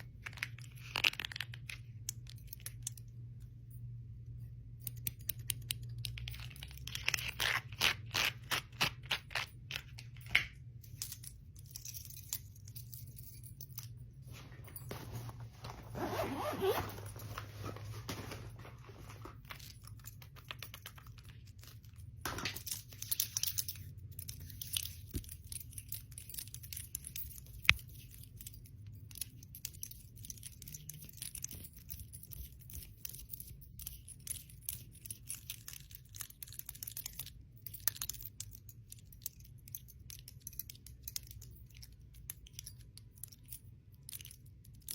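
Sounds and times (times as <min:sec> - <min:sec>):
bangles and rings clinking: 0:00.0 - 0:17.4, 0:19.2 - 0:44.9.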